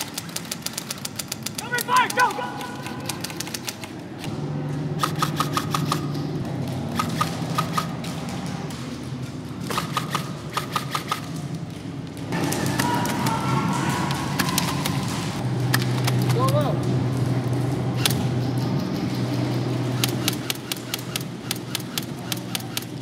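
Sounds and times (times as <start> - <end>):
airsoft guns firing: 0.0 - 4.3, 4.9 - 18.4, 19.4 - 23.0.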